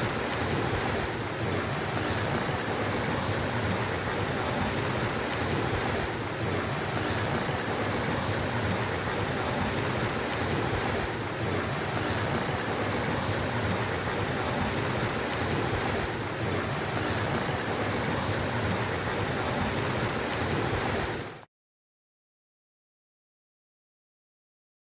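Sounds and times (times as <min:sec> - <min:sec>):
stream water rushing: 0:00.0 - 0:21.5.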